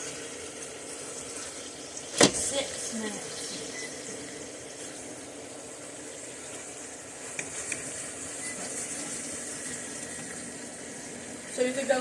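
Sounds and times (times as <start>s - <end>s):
steady kitchen hiss: 0.0s - 12.0s.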